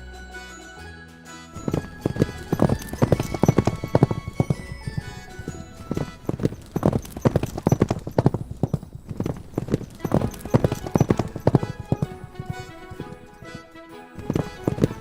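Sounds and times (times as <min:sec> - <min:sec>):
background music with held tones: 0:00.0 - 0:08.4, 0:09.9 - 0:15.0.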